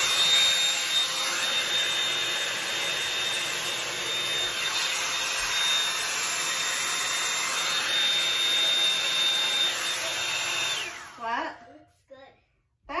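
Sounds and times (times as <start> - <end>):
hot-air brush blowing: 0.0 - 11.4.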